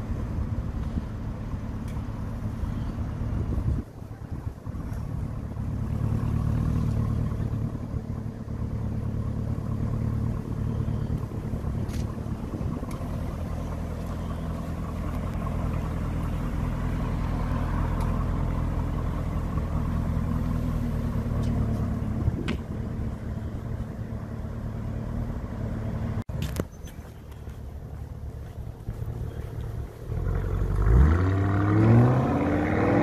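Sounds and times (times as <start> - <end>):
car engine running at low revs: 0.0 - 33.0.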